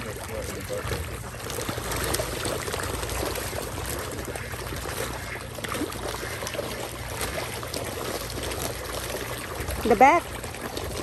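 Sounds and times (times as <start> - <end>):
fish splashing at water surface: 0.0 - 11.0.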